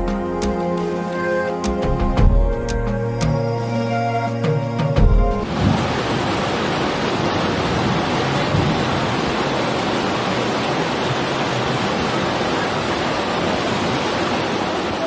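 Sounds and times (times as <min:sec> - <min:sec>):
heavy rain pouring: 0:00.2 - 0:15.0.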